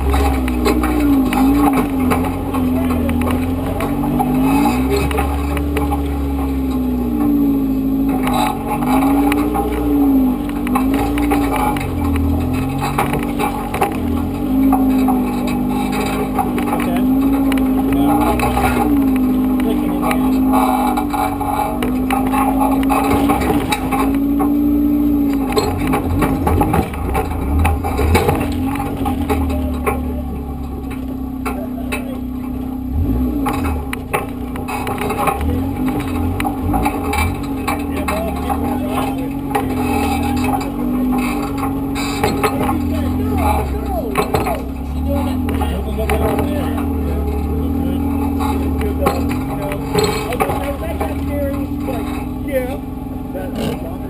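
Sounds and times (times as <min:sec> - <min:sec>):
scattered knocks: 0:00.0 - 0:32.6, 0:33.2 - 0:54.0
car engine running under load: 0:00.0 - 0:54.0.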